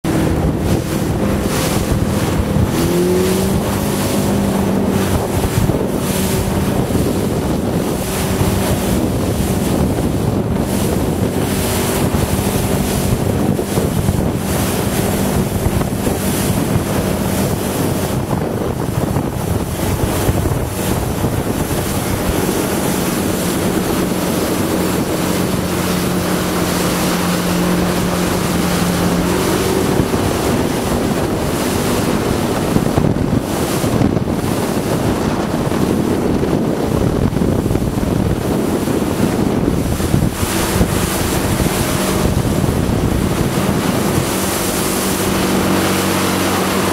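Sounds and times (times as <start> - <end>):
motorboat engine running: 0.0 - 46.9
water and waves rushing: 0.0 - 46.9
wind on microphone: 0.0 - 46.9.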